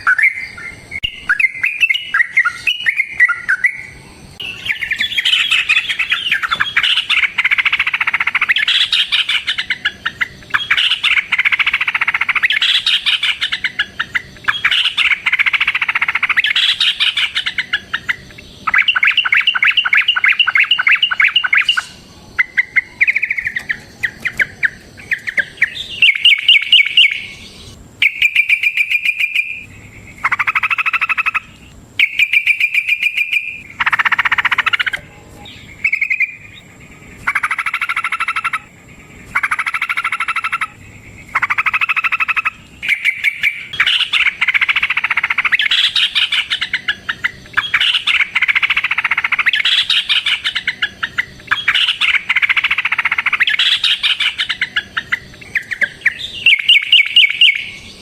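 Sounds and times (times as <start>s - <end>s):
bulbul singing chattering phrases: 0.0s - 58.0s.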